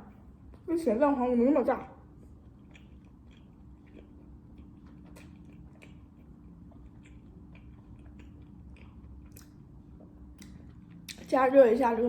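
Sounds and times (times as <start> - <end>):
faint chewing of pastry: 0.0 - 0.9, 1.8 - 11.8
steady low hum: 0.0 - 12.0.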